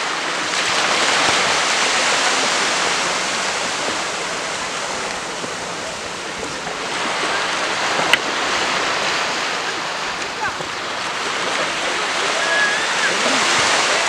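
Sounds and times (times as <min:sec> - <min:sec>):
gentle surf on sandy beach: 0:00.0 - 0:14.0.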